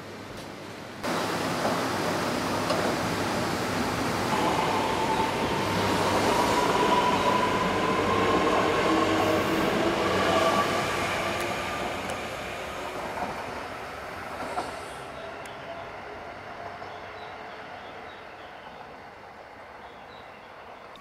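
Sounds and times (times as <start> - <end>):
wheel and rail noise: 0.3 - 17.7.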